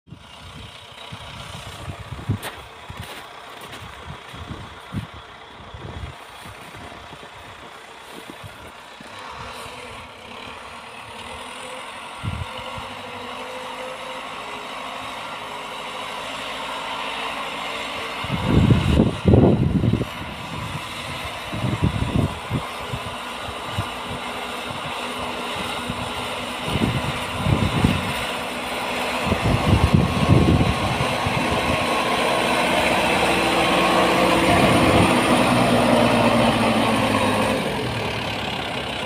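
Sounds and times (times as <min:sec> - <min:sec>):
distant tractor diesel engine: 0:00.1 - 0:39.0.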